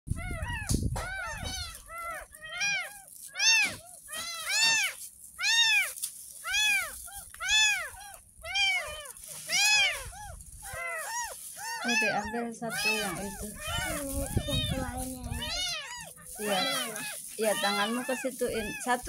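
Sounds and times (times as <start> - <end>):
kittens mewing: 0.1 - 19.0.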